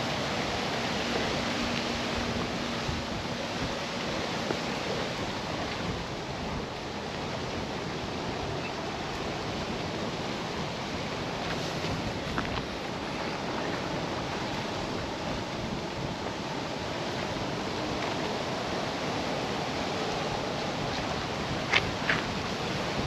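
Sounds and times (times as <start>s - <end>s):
rushing wind-like hiss: 0.0s - 23.0s.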